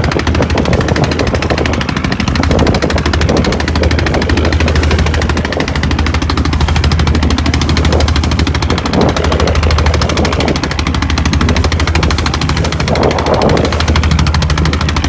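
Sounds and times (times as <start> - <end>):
boat diesel engine knocking: 0.0 - 15.0.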